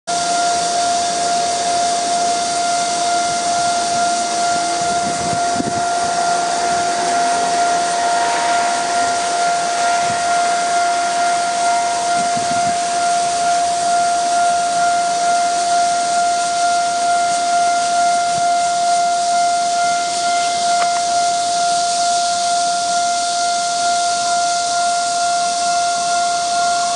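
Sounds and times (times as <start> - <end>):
level crossing warning alarm: 0.1 - 26.9
steady high hiss: 0.1 - 26.9.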